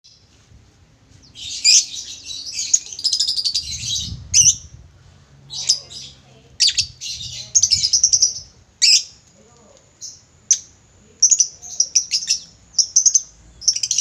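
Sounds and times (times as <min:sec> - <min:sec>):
lovebird chirping: 0:01.2 - 0:04.8, 0:05.5 - 0:09.2, 0:10.0 - 0:14.0.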